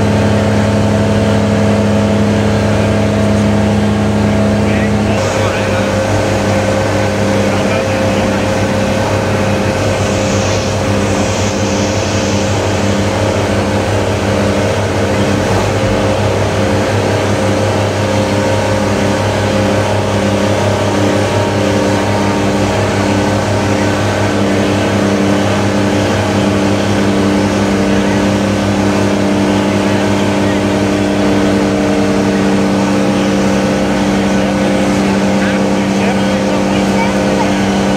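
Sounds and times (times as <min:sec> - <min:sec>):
diesel engine running at full load: 0:00.0 - 0:37.9.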